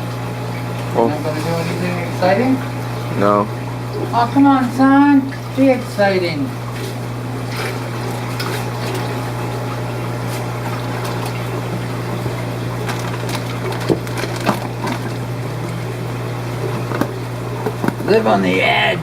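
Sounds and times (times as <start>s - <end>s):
water running and trickling: 0.0s - 18.5s
pump hum: 0.0s - 19.0s.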